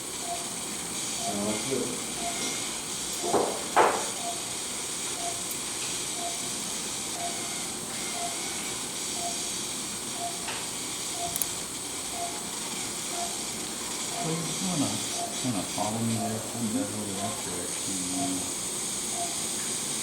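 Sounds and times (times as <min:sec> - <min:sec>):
steady hiss: 0:00.0 - 0:20.0
patient monitor beeping: 0:00.2 - 0:02.6, 0:03.2 - 0:04.5, 0:05.1 - 0:05.5, 0:06.1 - 0:08.6, 0:09.2 - 0:09.6, 0:10.2 - 0:19.5.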